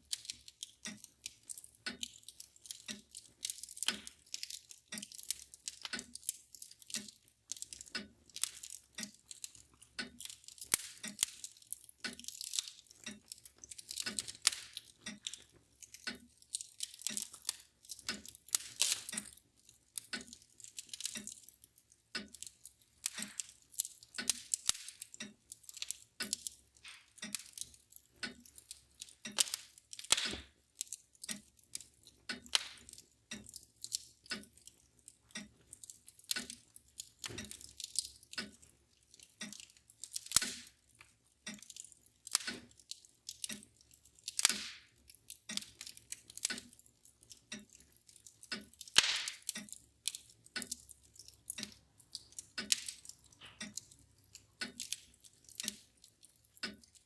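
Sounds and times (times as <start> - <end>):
mantel clock ticking: 0.0 - 57.0
wood fire crackling and popping: 0.0 - 57.0.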